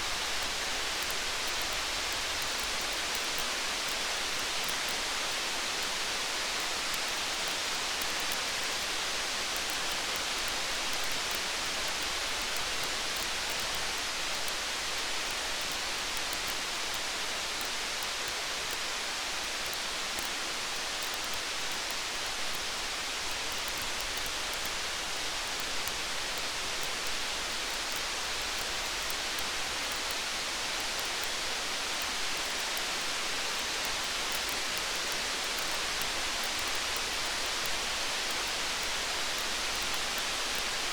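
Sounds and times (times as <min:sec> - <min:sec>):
faint ticks: 0:00.0 - 0:40.9
steady rainfall: 0:00.0 - 0:40.9.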